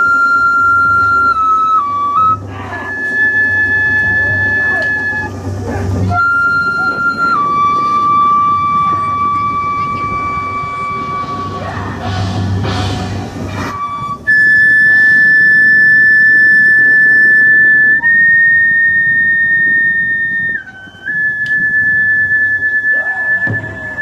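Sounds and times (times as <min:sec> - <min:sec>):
high pure whistling tone: 0:00.0 - 0:05.4, 0:06.0 - 0:12.2, 0:13.5 - 0:24.0.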